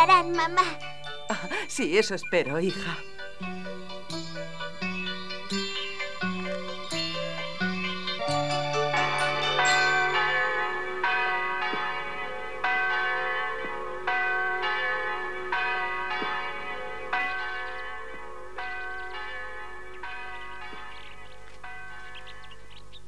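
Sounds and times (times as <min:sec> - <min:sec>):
church bell tolling: 0:00.0 - 0:23.0.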